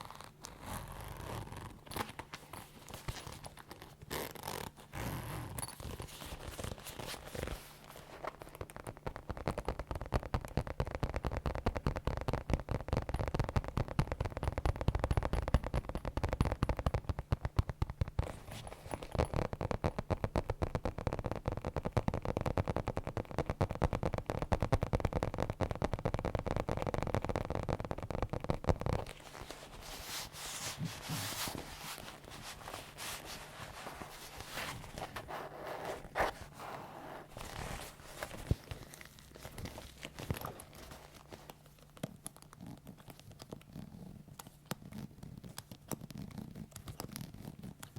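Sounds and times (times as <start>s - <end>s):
leather creaking and crackling: 0.0s - 47.9s.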